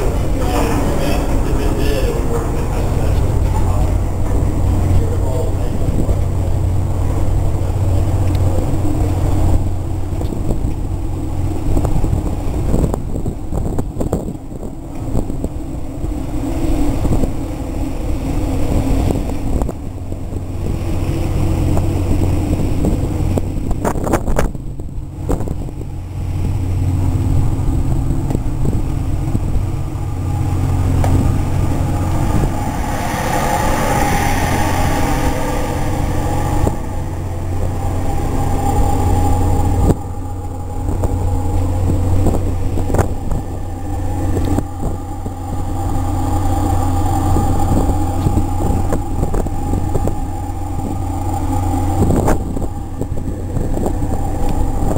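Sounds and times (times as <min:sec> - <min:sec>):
low steady hum: 0:00.0 - 0:54.9
wind buffeting microphone: 0:00.0 - 0:54.9.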